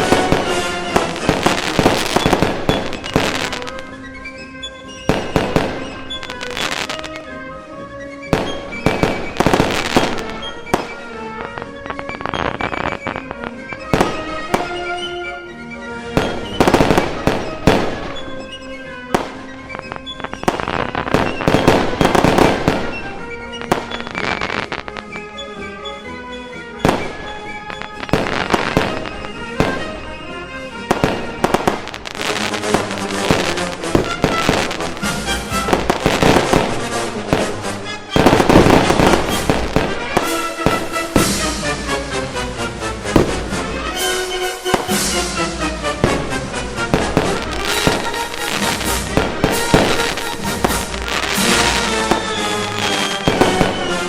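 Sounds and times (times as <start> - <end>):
fireworks banging: 0.0 - 7.3, 8.1 - 54.0
fireworks crackling: 0.0 - 7.4, 8.1 - 54.0
background music: 0.0 - 54.0.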